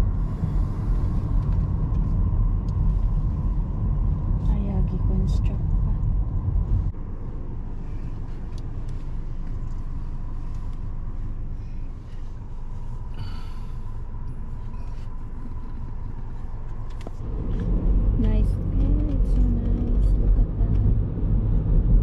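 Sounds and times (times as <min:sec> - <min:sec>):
faint steady whine: 0:00.0 - 0:20.0
engine and tyre rumble: 0:00.0 - 0:22.0.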